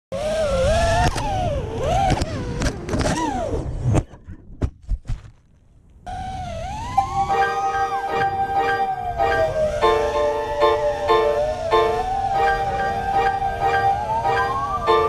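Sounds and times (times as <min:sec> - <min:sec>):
quadcopter motors whining: 0:00.1 - 0:03.8, 0:06.1 - 0:15.0.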